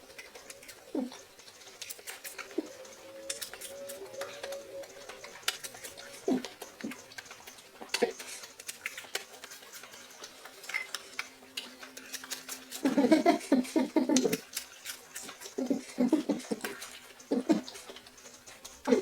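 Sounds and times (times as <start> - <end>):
apple crunching: 0.0 - 19.0.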